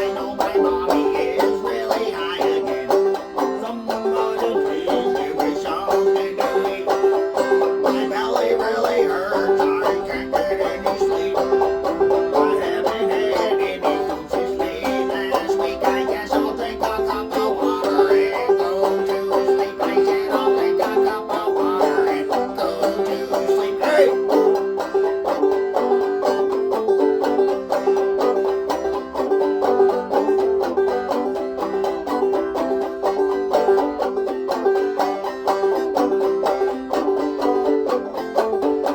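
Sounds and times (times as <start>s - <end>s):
fast picked banjo: 0.0s - 38.9s
plucked strings: 0.0s - 38.9s.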